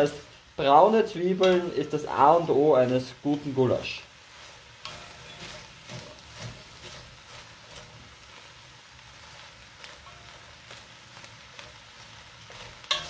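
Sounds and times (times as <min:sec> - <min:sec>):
wooden spatula scraping pot: 0:01.0 - 0:13.0.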